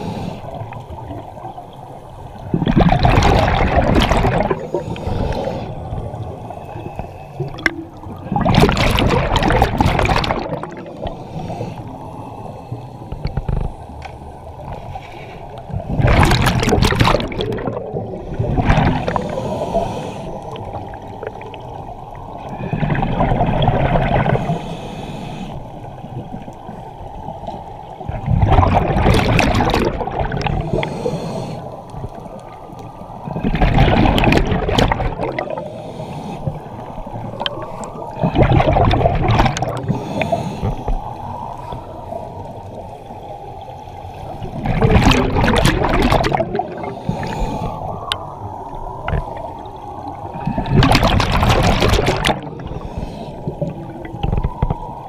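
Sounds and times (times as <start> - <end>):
scuba regulator breathing underwater: 0.0 - 0.8, 2.4 - 14.0, 14.6 - 21.4, 22.4 - 25.9, 28.6 - 32.4, 33.2 - 43.2, 44.0 - 55.0
exhaled bubbles gurgling: 0.0 - 12.0, 15.5 - 24.7, 25.8 - 55.0.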